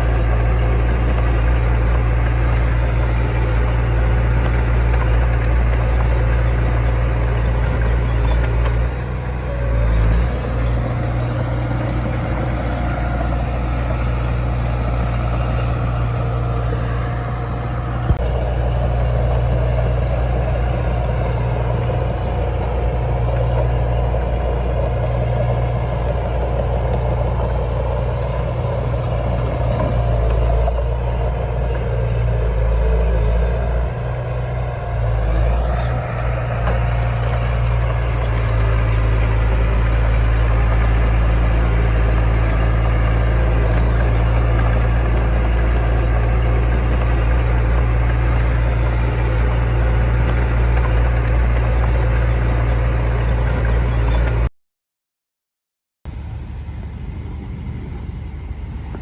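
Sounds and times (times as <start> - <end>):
heavy diesel engine running: 0.0 - 54.5, 56.1 - 59.0.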